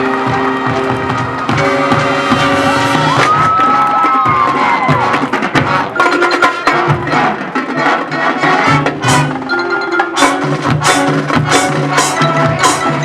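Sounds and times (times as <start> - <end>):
fast sharp drum strokes: 0.0 - 13.0
marching band playing: 0.0 - 13.0.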